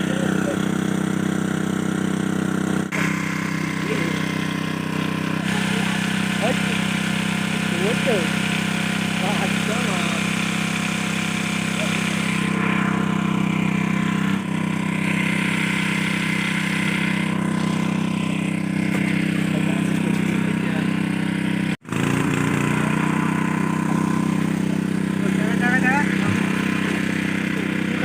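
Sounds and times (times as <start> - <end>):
engine-driven water pump running: 0.0 - 28.0.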